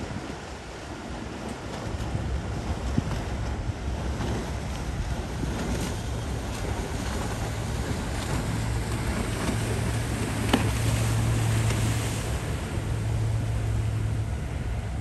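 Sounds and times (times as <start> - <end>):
wind noise: 0.0 - 12.8
boat engines droning: 0.0 - 15.0
water wash: 0.0 - 15.0.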